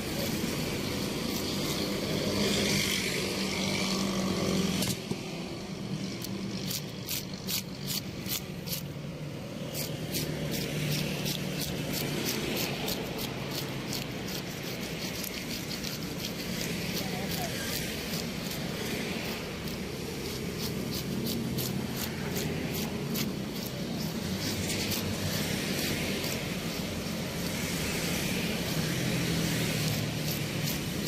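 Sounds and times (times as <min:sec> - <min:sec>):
fish scales being scraped: 0:00.0 - 0:04.3, 0:06.1 - 0:31.0.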